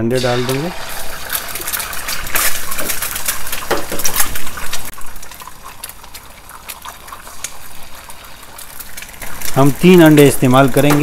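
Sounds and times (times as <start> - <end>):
eggs frying in sizzling oil: 0.2 - 11.0
oil spattering and crackling: 0.4 - 11.0.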